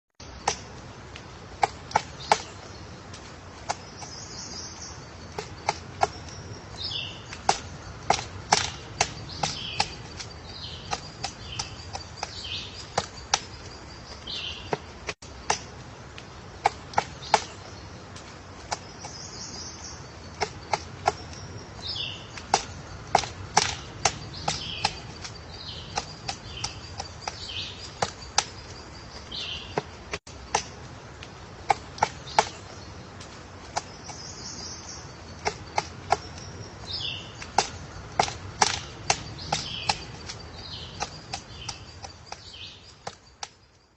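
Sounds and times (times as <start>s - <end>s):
high falling bird chirps: 0.2s - 43.9s
woodpecker pecking at wood: 0.2s - 43.9s.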